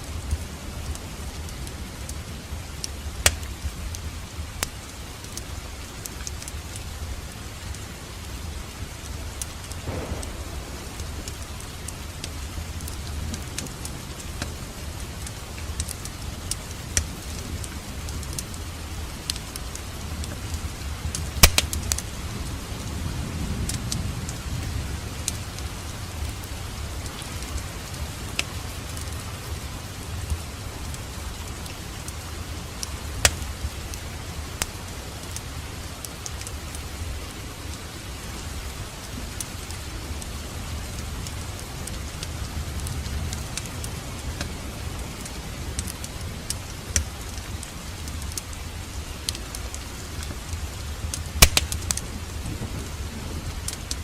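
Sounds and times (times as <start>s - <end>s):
fire crackling and popping: 0.0s - 54.0s
fire flames rumbling: 0.1s - 54.0s.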